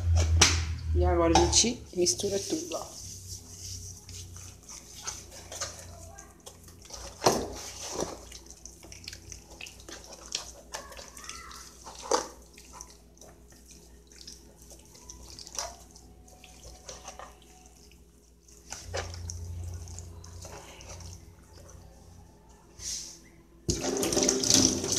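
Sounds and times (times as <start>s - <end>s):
hands kneading raw meat: 2.0s - 23.1s.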